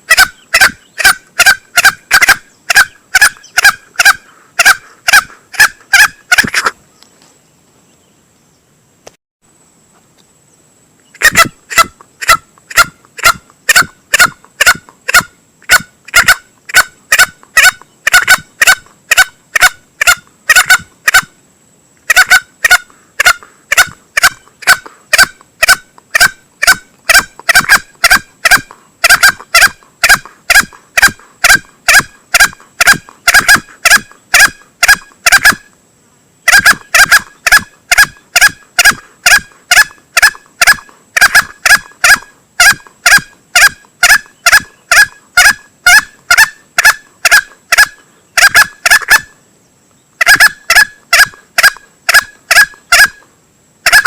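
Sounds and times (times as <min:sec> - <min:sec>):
junglefowl clucking calls: 0:00.0 - 0:06.8, 0:11.1 - 0:21.4, 0:22.0 - 0:35.8, 0:36.4 - 0:49.4, 0:50.2 - 0:54.0.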